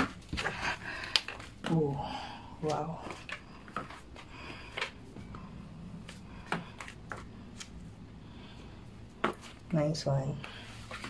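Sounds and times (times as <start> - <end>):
sandals on tile floor: 0.0 - 11.0.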